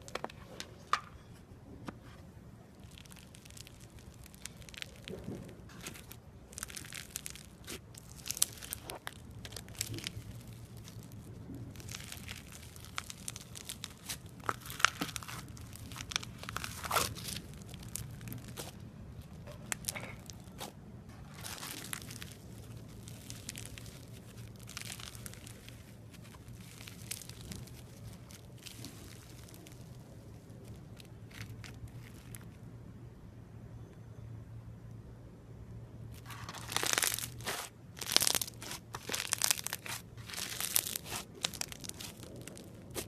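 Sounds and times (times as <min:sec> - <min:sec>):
faint low hum: 0:00.0 - 0:43.0
crunchy slime crackling: 0:02.6 - 0:32.7, 0:36.1 - 0:43.0.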